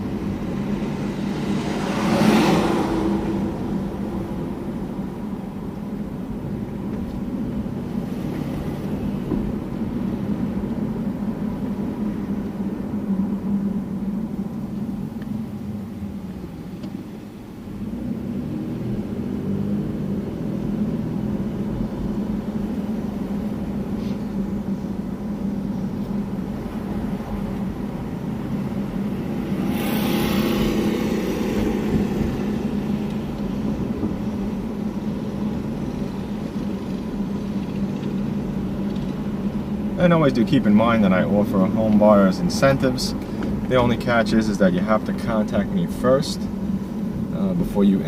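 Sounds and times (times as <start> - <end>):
car engine and road hum: 0.0 - 48.0
rush of noise: 0.0 - 48.0.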